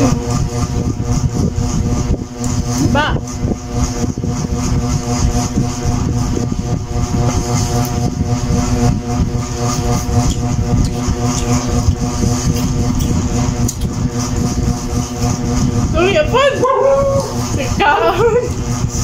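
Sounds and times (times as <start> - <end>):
low rumbling noise: 0.0 - 19.0
machine motor hum: 0.0 - 19.0.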